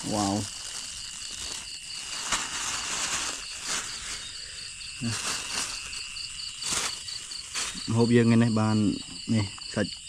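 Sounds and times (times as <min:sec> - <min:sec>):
insects trilling: 0:00.0 - 0:10.0
pulsing cricket chirp: 0:00.0 - 0:10.0.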